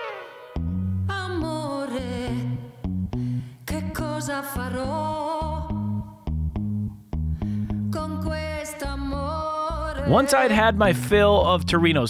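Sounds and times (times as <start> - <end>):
repeated bass notes: 0.0 - 4.0, 4.7 - 12.0.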